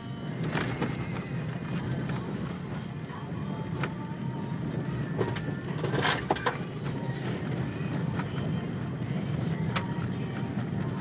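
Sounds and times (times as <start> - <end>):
car engine and tyre rumble: 0.0 - 11.0
music playing: 0.0 - 11.0.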